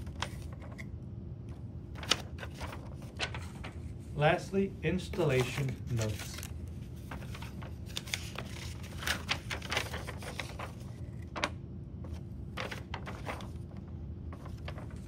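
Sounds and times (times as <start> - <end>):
paper rustling: 0.0 - 0.9, 1.9 - 4.1, 4.9 - 15.0
low steady hum: 0.0 - 15.0.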